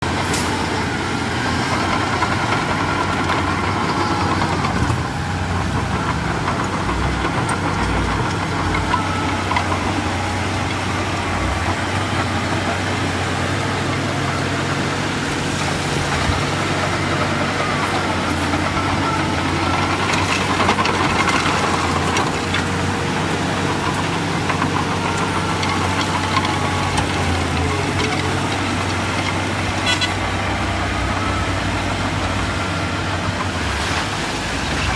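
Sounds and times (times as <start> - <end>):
diesel engine of heavy machinery: 0.0 - 34.9.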